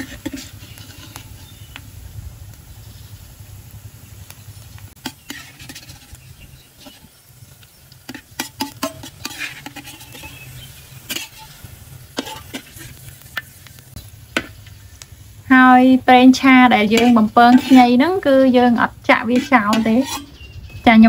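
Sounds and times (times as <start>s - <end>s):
metal ladle scraping wok: 0.0s - 1.8s, 4.9s - 15.4s, 16.0s - 21.0s
hot oil sizzling: 0.0s - 21.0s.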